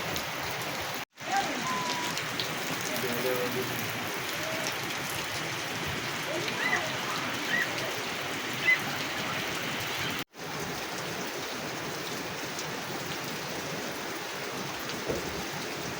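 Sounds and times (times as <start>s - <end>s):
steady rain falling: 0.0s - 15.9s.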